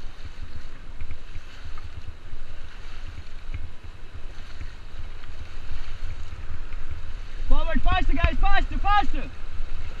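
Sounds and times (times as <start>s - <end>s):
paddle splashes: 0.0s - 10.0s
rushing whitewater: 0.0s - 10.0s
wind buffeting microphone: 0.0s - 10.0s.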